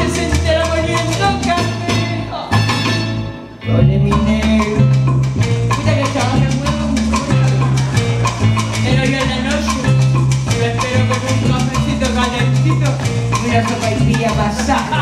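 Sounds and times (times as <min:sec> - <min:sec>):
salsa music: 0:00.0 - 0:15.0.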